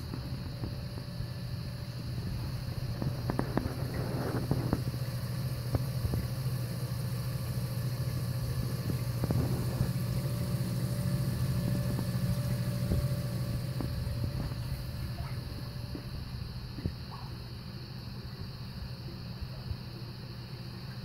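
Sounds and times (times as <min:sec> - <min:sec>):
pumps humming: 0:00.0 - 0:21.0.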